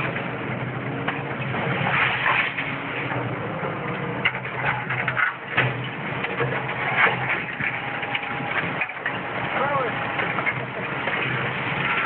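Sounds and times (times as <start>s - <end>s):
crunching and clattering debris: 0.0s - 12.0s
diesel engine running: 0.0s - 12.0s.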